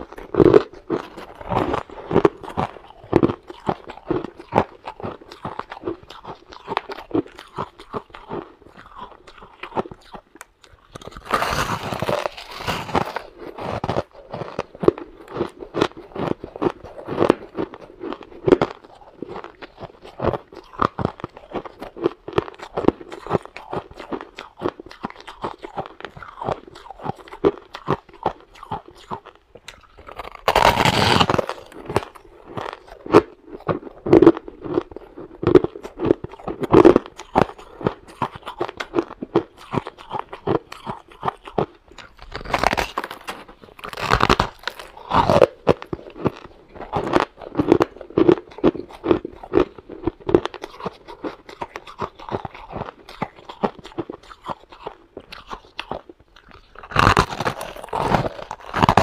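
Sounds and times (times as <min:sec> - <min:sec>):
chewing shaved ice crunches: 0:00.0 - 0:59.0.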